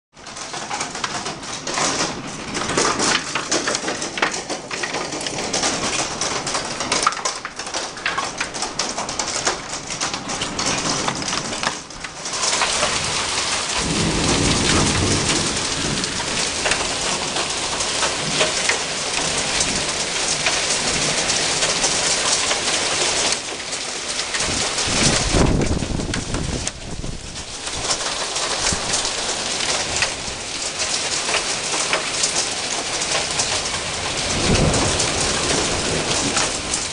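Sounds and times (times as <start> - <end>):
thunder rumble: 0.2 - 22.3, 24.3 - 30.5, 32.8 - 36.9
hail clattering on window: 0.2 - 36.9
rain hissing: 0.2 - 36.9.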